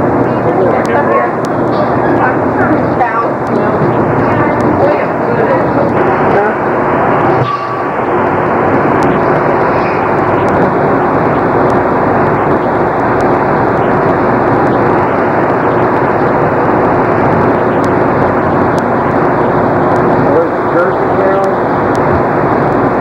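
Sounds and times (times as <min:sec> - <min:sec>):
faint steady hum: 0:00.0 - 0:23.0
loud steady rushing noise: 0:00.0 - 0:23.0.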